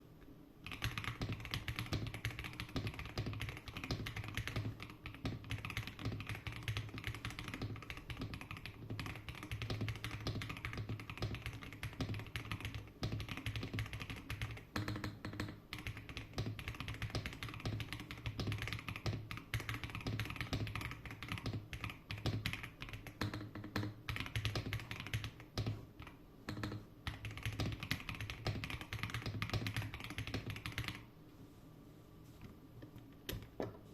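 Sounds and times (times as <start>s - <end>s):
fast mechanical keyboard typing: 0.6s - 31.0s.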